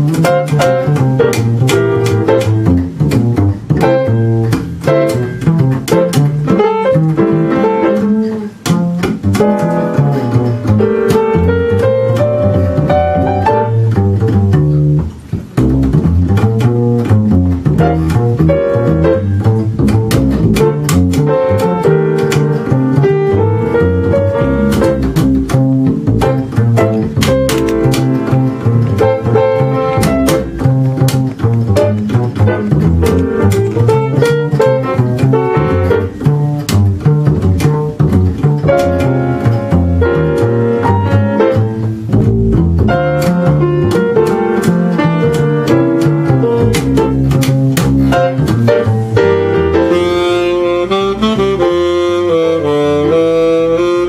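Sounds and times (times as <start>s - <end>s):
double bass plucked low notes: 0.0s - 54.0s
piano chords: 0.0s - 54.0s.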